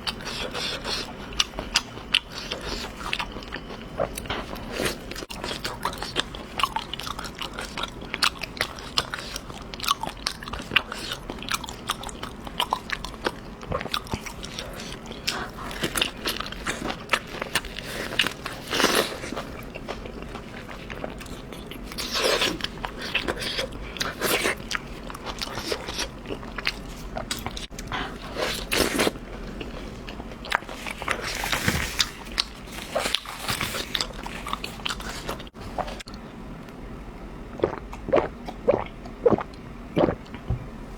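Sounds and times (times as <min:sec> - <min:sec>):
person chewing: 0:00.0 - 0:36.2, 0:37.6 - 0:40.5.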